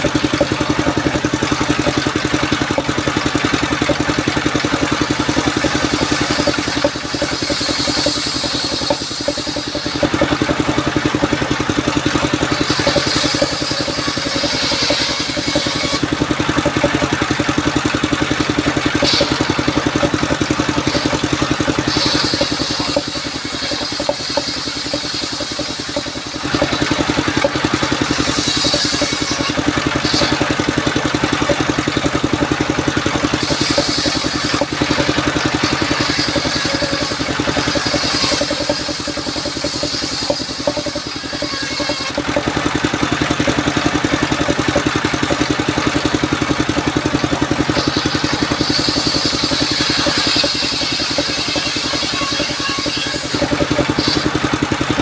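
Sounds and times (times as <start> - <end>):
saw blade cutting wood: 0.0 - 55.0
sawmill engine running: 0.0 - 55.0.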